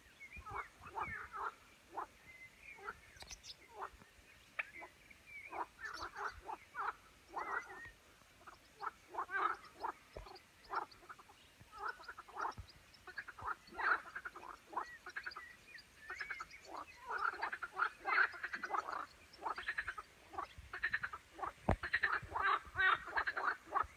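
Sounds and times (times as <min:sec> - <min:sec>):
frogs croaking: 0:00.4 - 0:02.1, 0:04.6 - 0:15.4, 0:16.1 - 0:23.9.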